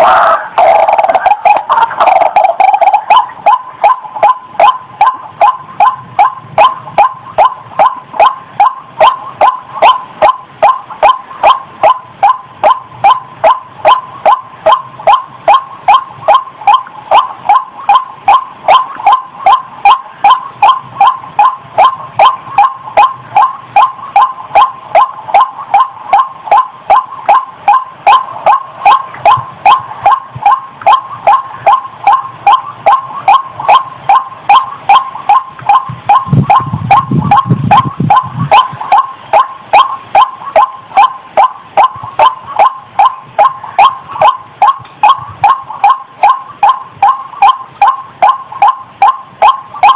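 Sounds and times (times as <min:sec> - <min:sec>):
waterhen croaking call: 0:00.0 - 0:49.9.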